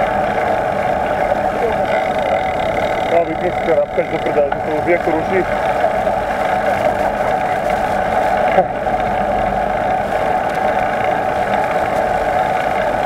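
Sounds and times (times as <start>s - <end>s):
bicycle whirring: 0.0s - 13.0s
road noise: 0.0s - 13.0s
wind: 0.0s - 13.0s.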